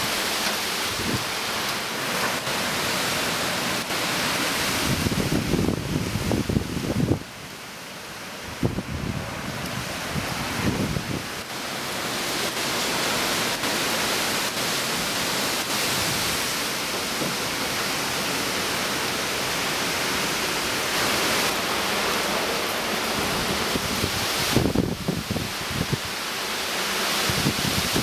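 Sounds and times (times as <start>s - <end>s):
heavy rain and wind rushing: 0.0s - 28.0s.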